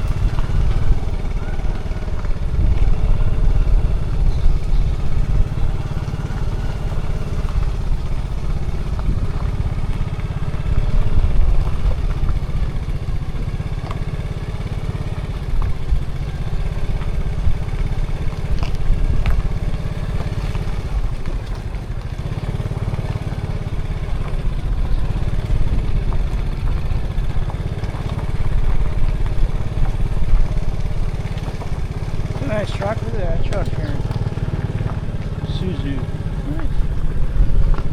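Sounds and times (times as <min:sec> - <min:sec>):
car engine and road rumble: 0:00.0 - 0:37.9.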